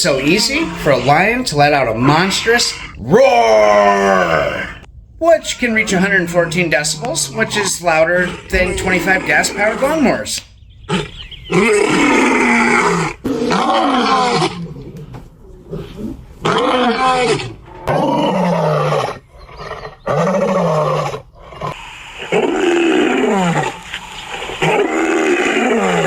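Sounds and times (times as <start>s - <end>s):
lions roaring: 0.0s - 26.0s.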